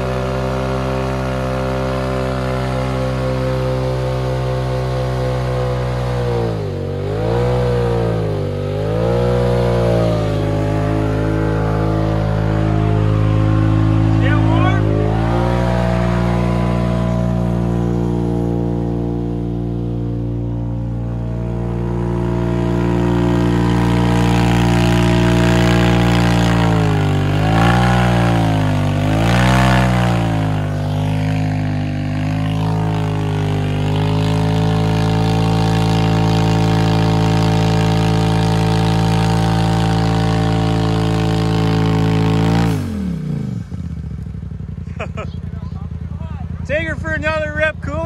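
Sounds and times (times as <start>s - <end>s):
engine revving high: 0.0s - 48.0s.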